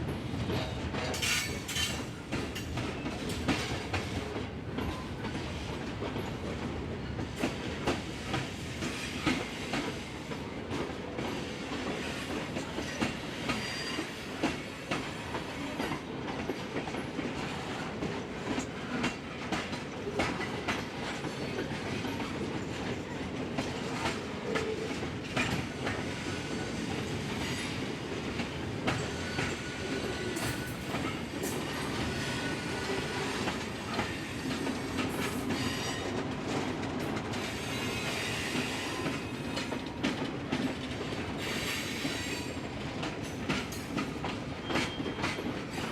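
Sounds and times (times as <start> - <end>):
freight train wheels clicking: 0.5 - 45.9.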